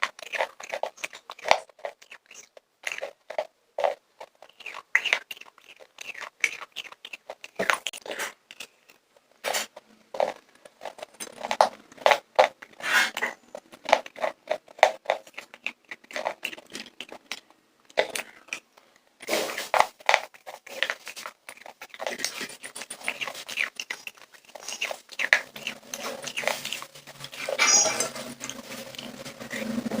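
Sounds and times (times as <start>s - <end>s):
popcorn crunching and chewing: 0.0s - 30.0s.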